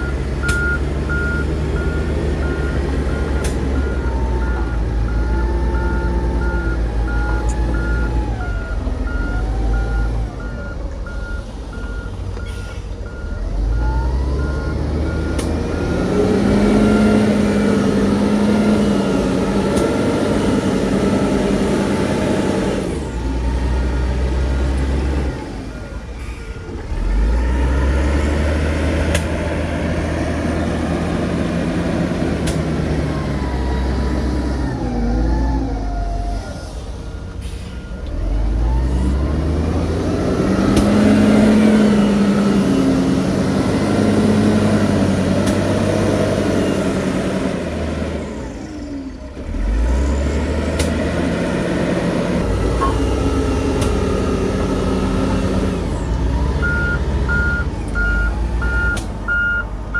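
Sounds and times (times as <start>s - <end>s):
heavy diesel machinery engine revving: 0.0s - 59.9s.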